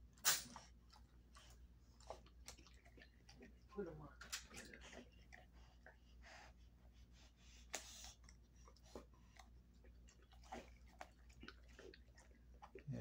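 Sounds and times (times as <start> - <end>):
dog gnawing and crunching: 0.0 - 6.7, 7.5 - 13.0.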